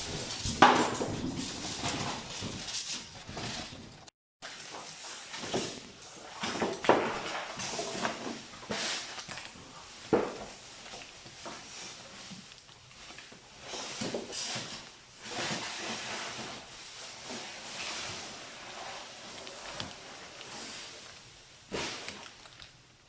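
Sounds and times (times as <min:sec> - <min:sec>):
rustling: 0:00.0 - 0:23.0.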